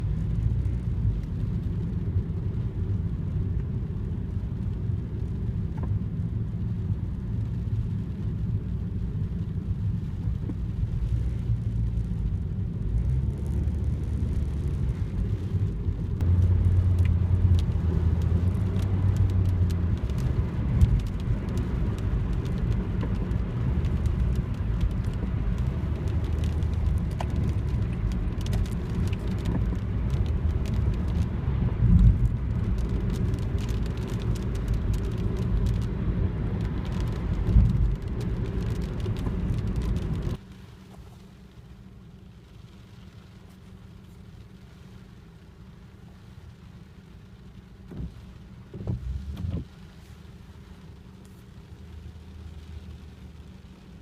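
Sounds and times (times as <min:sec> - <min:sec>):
car rumbling: 0:00.0 - 0:54.0
raindrops ticking: 0:00.0 - 0:54.0.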